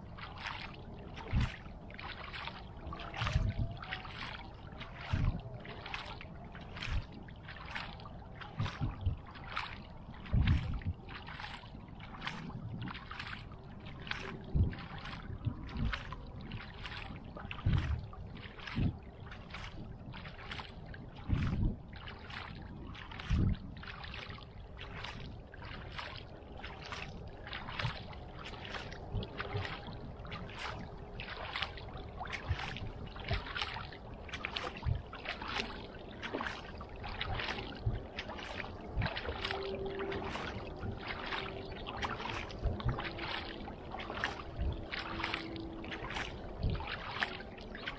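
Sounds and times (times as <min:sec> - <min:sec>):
paddle swishing through water: 0:00.0 - 0:47.9.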